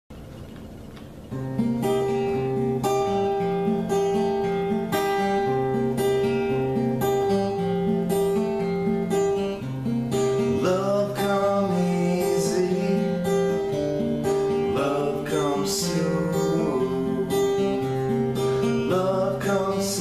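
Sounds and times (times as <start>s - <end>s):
acoustic guitar playing: 0.1s - 20.0s.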